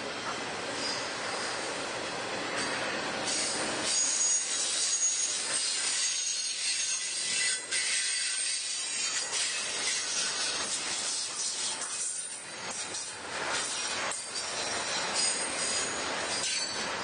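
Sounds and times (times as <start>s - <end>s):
freight train cars rolling: 0.0s - 17.0s
wheels squealing on rail: 0.2s - 1.9s, 2.6s - 17.0s.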